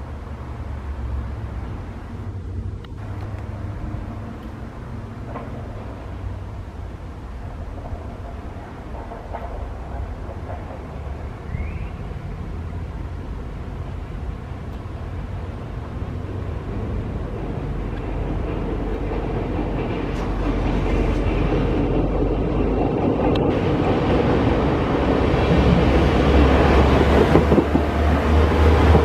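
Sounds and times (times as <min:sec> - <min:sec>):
diesel train engine: 0:00.0 - 0:29.0
train wheels on rails: 0:00.0 - 0:29.0.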